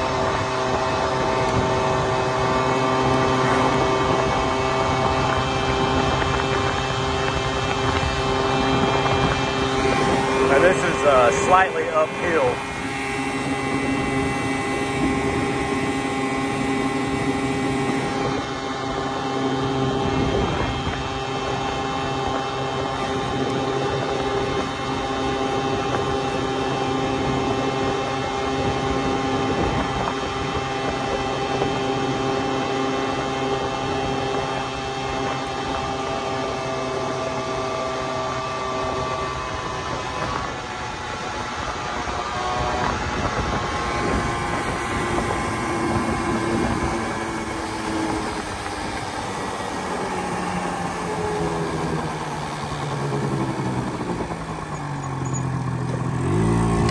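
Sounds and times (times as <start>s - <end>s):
scooter engine running steadily: 0.0s - 56.9s
wind rush over microphone: 0.0s - 56.9s.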